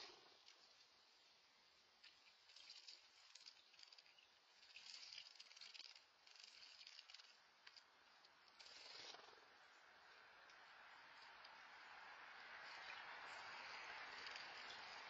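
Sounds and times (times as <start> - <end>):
water trickling over stones: 0.0 - 15.0.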